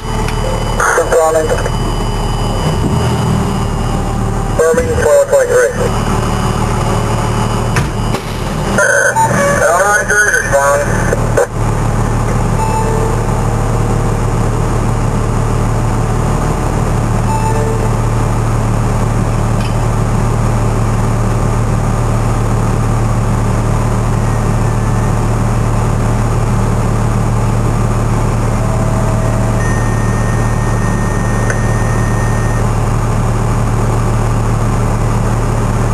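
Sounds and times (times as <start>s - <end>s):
vehicle engine idling: 0.0s - 35.9s.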